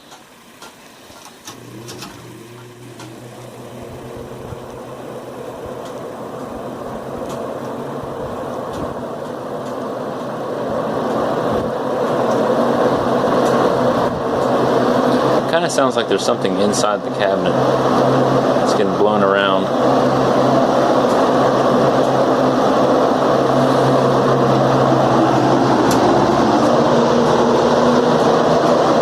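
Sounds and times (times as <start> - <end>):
fan motor hum with rushing air: 0.0 - 29.0.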